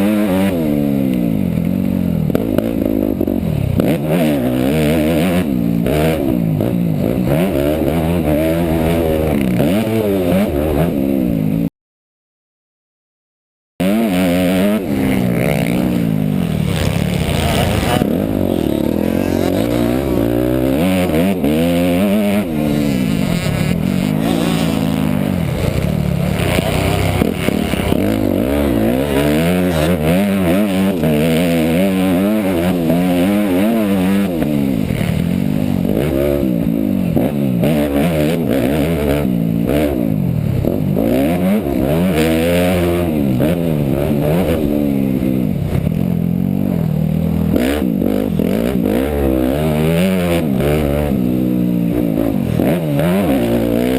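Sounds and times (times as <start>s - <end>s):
dirt bike engine revving: 0.0s - 11.7s, 13.8s - 53.9s.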